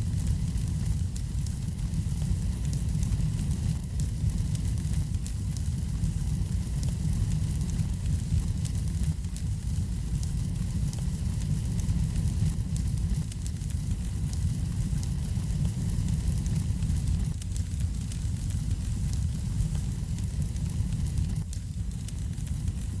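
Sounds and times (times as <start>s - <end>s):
fire crackling in fireplace: 0.0s - 23.0s.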